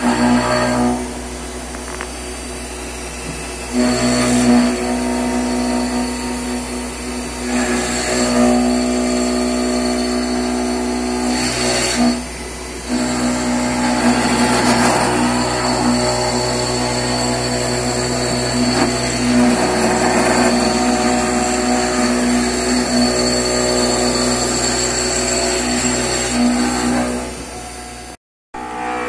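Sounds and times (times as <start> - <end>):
milling machine cutting wood: 0.0 - 29.0.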